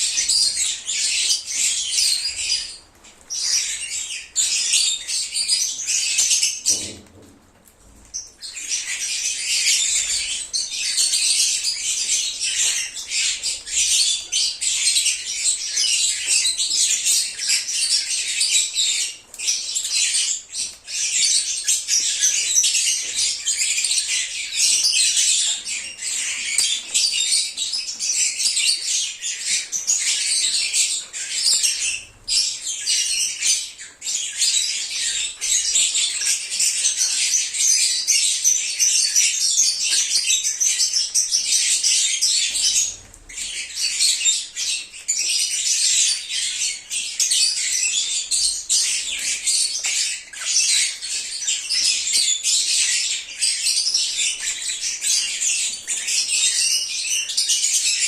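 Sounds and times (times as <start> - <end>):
flock of birds chattering: 0.0 - 58.0.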